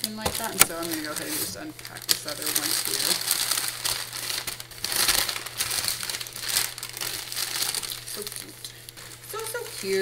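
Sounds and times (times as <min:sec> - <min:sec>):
packing paper crinkling: 0:00.0 - 0:10.0.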